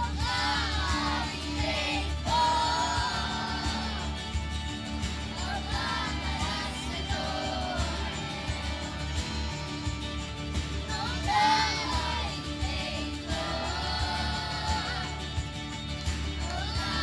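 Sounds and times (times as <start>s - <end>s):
instrumental accompaniment with beat: 0.0s - 17.0s.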